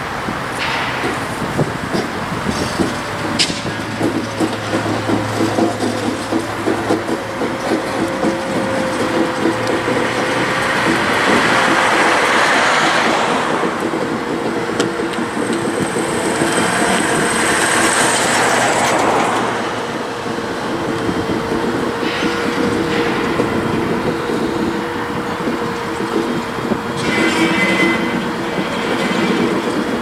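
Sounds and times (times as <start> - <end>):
train wheels on rails: 0.0 - 30.0
wheel flanges squealing: 1.2 - 30.0.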